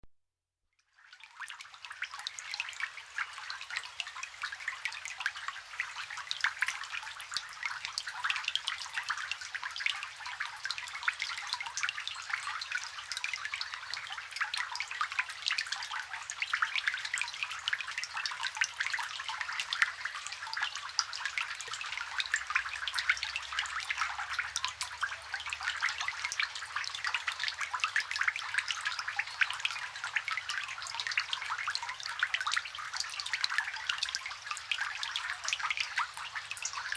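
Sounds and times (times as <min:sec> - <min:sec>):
rain falling on water: 0:01.1 - 0:36.9.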